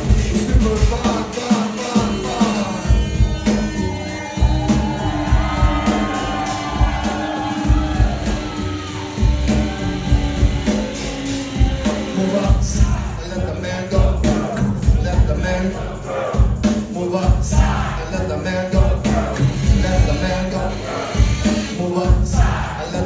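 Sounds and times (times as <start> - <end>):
person singing: 0.0 - 23.0
rock band playing live: 0.0 - 23.0.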